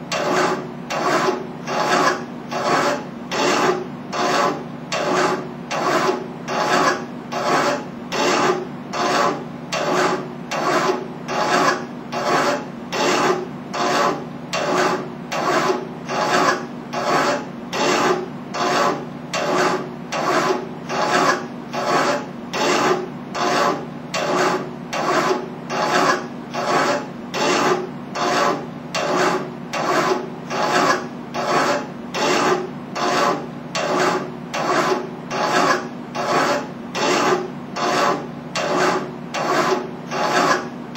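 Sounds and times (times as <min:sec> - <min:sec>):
file rasping on metal: 0:00.1 - 0:40.8.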